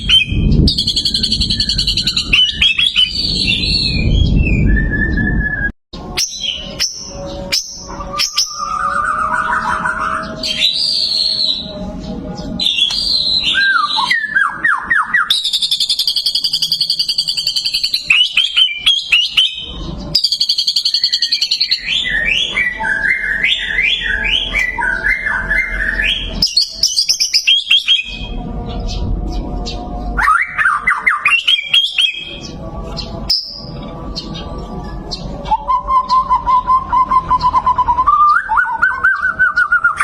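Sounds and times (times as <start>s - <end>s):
bird singing varied song: 0.0s - 40.0s.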